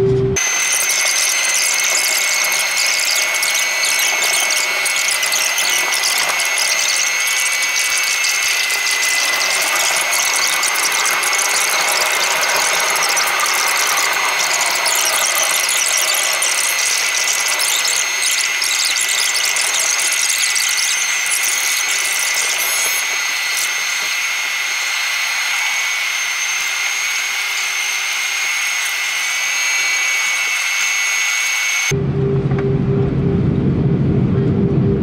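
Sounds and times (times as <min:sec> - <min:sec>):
jet engines idling with whine: 0:00.0 - 0:35.0.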